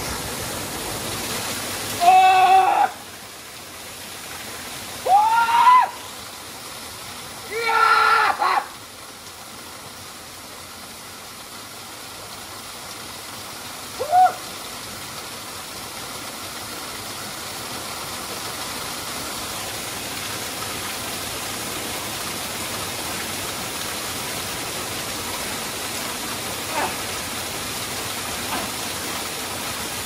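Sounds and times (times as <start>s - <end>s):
waterfall pouring into pool: 0.0s - 30.0s.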